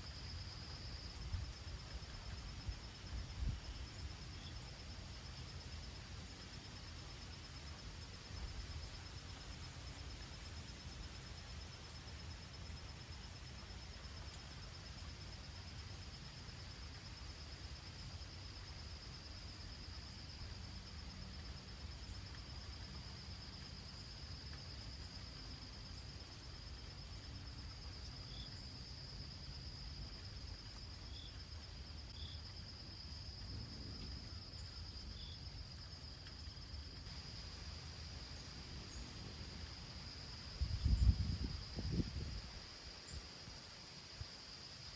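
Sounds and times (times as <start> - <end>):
high-pitched insect trill: 0.0 - 44.9
soft rain hiss: 0.0 - 44.9.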